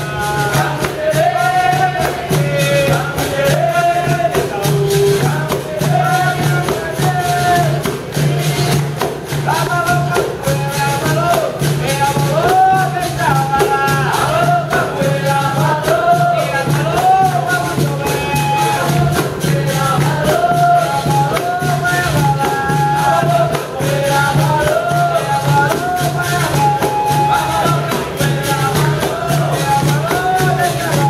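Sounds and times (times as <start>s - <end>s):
group singing: 0.0s - 31.0s
handclaps: 0.0s - 31.0s
pandeiro: 0.0s - 31.0s.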